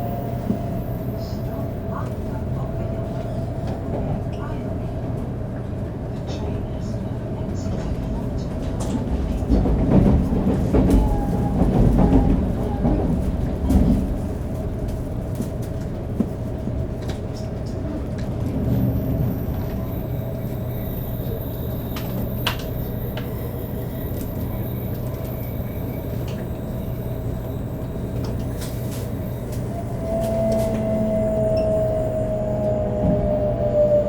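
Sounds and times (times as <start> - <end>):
train rumbling at speed: 0.0 - 34.0.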